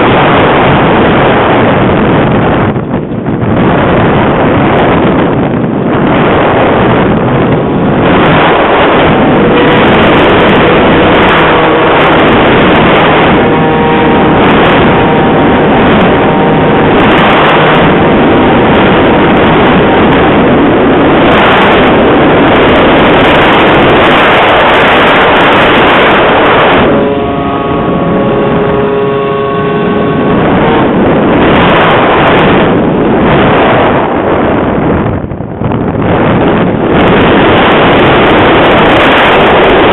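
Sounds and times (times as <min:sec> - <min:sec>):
wind buffeting the microphone: 0:00.0 - 0:39.9.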